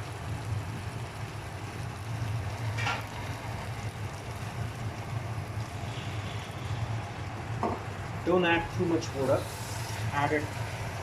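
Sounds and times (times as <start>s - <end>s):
chicken sizzling in a pan: 0.0s - 11.0s
steady low hum: 0.0s - 11.0s.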